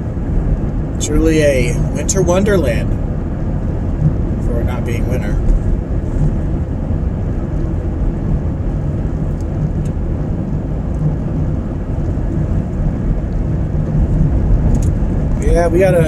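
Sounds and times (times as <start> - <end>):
car driving heard from cabin: 0.0 - 16.0.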